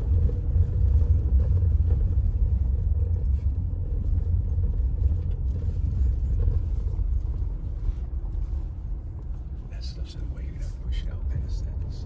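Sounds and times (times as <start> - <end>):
tyre noise on gravel road: 0.0 - 10.5
vehicle engine running: 0.0 - 12.0.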